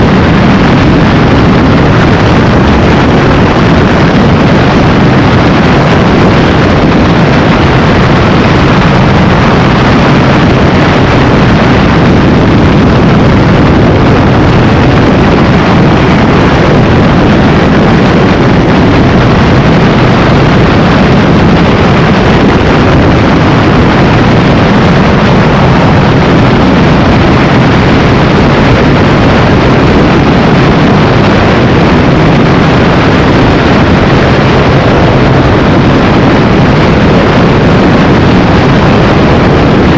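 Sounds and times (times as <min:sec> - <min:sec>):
motorcycle engine at high speed: 0:00.0 - 0:39.9
wind noise on microphone: 0:00.0 - 0:39.9.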